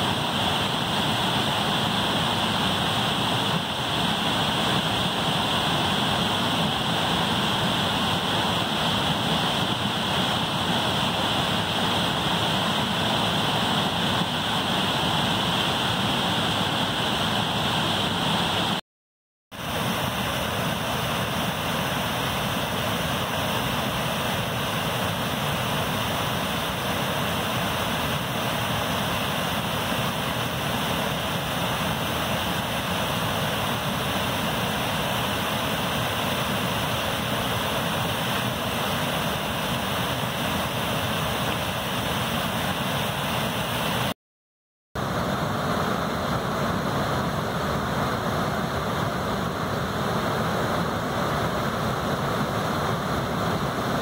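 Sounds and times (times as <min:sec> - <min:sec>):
white water rushing over rocks: 0:00.0 - 0:18.8, 0:19.6 - 0:44.1, 0:45.0 - 0:54.0.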